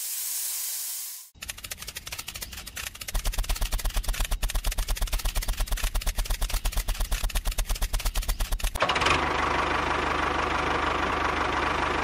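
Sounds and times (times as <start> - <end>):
small engine chugging: 1.4 - 12.0.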